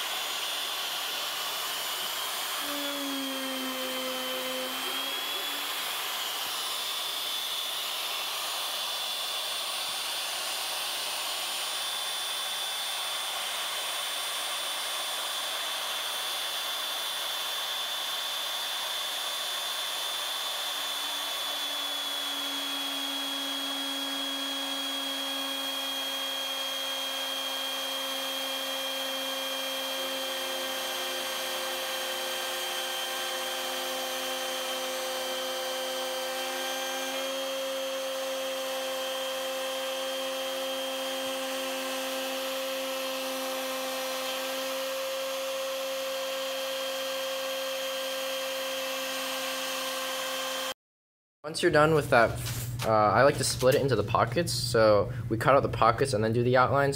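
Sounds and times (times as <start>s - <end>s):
end mill cutting metal: 0.0s - 50.7s
router spindle high whine: 0.0s - 50.7s.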